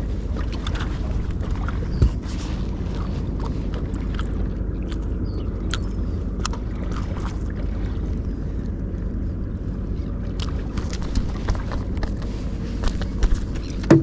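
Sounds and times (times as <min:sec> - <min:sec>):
wind and water rumbling: 0:00.0 - 0:14.0.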